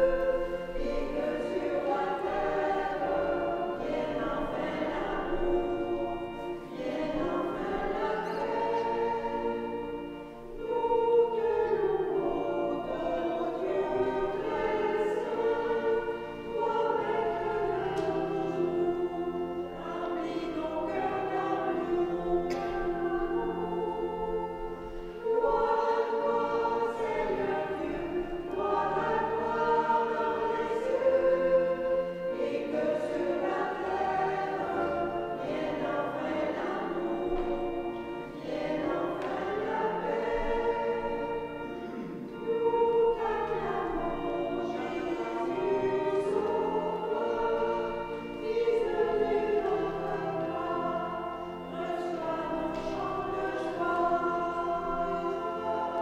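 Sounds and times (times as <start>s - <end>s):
small choir singing: 0.0s - 56.0s.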